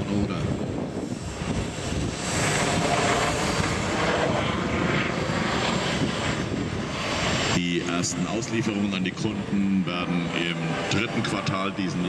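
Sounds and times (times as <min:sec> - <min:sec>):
helicopter rotor and turbine: 0:00.0 - 0:12.0.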